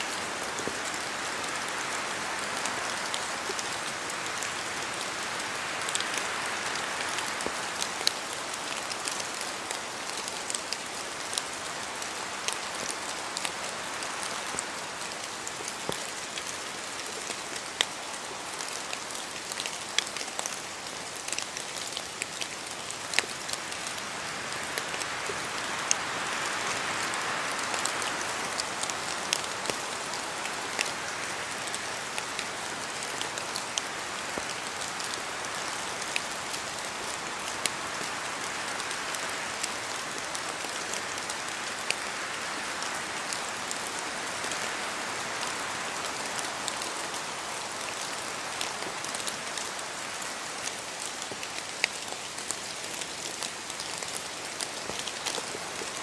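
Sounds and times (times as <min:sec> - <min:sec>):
rain falling on trees: 0:00.0 - 0:56.0
water dripping from leaves: 0:00.0 - 0:56.0.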